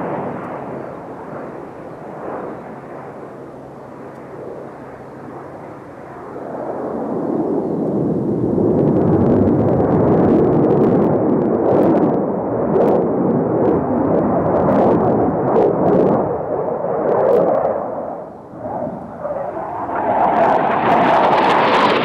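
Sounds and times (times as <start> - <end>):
fighter jet engine roar: 0.0 - 22.0.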